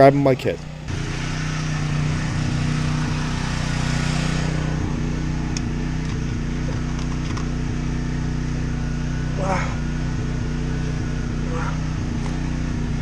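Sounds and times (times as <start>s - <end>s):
generator engine humming: 0.0s - 13.0s.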